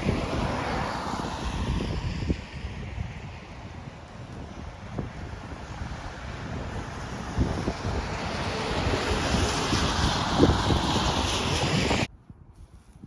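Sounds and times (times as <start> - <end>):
rushing wind: 0.0 - 13.0
wind buffeting microphone: 0.0 - 13.0.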